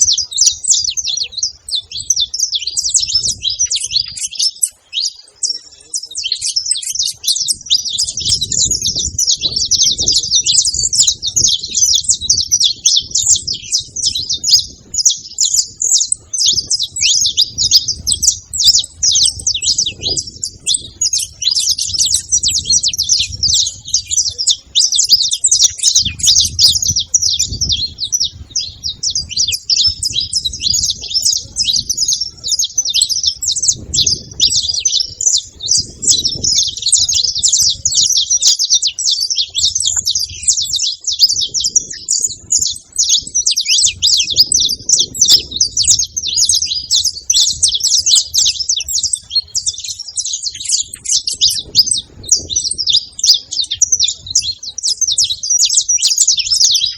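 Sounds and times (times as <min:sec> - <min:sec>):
finches chirping and singing: 0:00.0 - 0:56.9.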